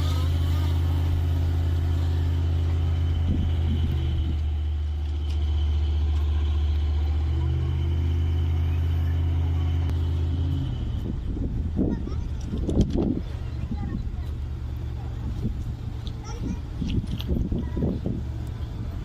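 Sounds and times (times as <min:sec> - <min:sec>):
heavy engine droning: 0:00.0 - 0:19.0.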